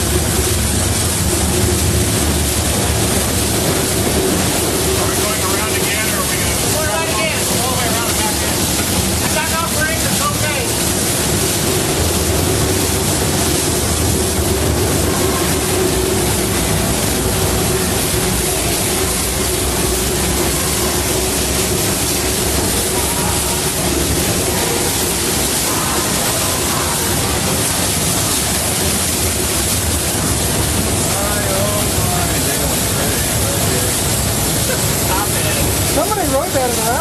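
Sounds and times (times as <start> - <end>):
steam locomotive roaring: 0.0 - 37.0.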